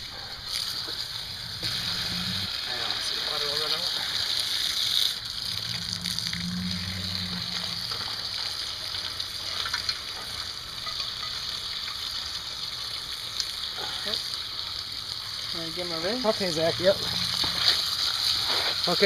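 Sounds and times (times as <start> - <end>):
water hissing draining onto concrete: 0.0 - 19.0.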